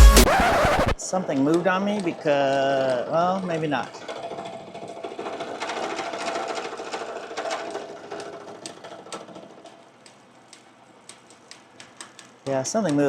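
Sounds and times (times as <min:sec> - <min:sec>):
milling machine rattling: 0:01.0 - 0:13.0.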